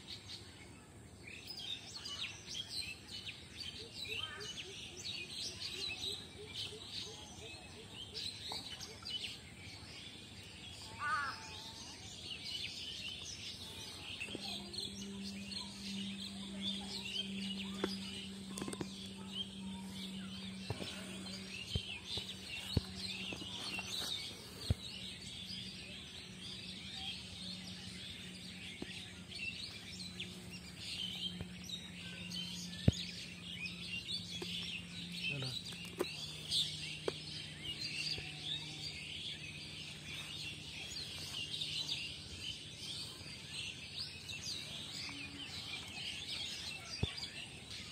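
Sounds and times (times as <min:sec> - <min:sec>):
small birds chirping: 0:00.0 - 0:47.9
steady low hum: 0:00.0 - 0:47.9.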